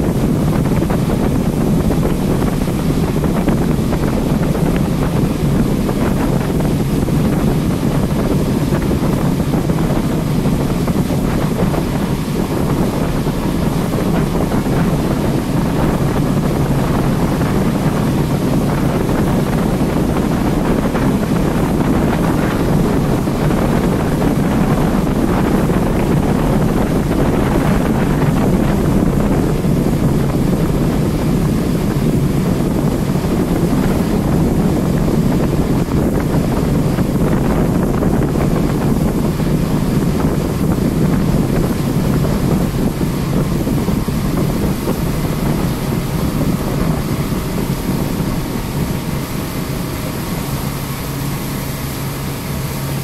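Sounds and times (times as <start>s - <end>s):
boat engine: 0.0s - 53.0s
water noise: 0.0s - 53.0s
wind buffeting the microphone: 0.0s - 53.0s.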